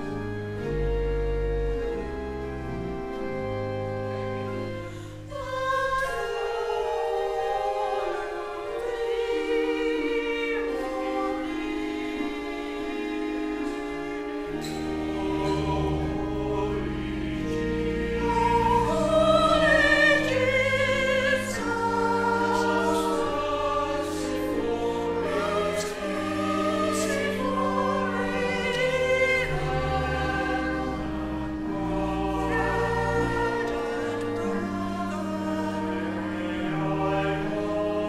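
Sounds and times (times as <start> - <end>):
choir singing: 0.0 - 38.0
organ chords: 0.0 - 38.0.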